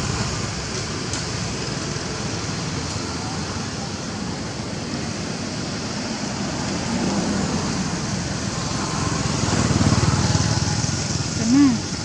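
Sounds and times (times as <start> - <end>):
steady noisy hiss: 0.0 - 12.0.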